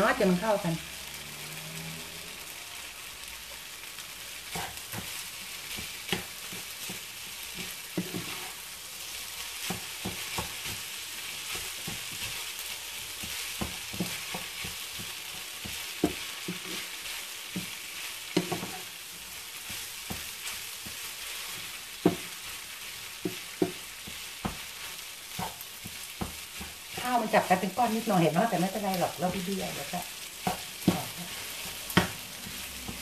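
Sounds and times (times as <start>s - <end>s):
rice sizzling in a frying pan: 0.0s - 33.0s
wooden spatula scraping a pan: 4.4s - 33.0s.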